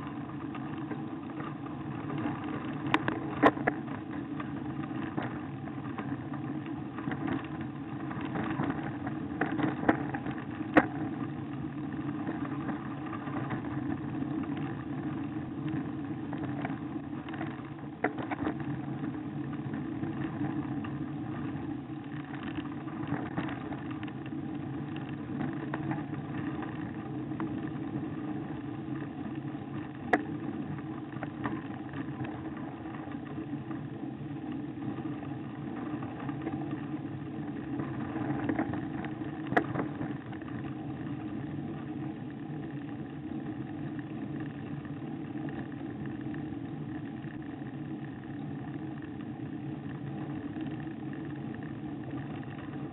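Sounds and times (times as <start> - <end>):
bicycle rolling on rough tarmac: 0.0 - 52.9.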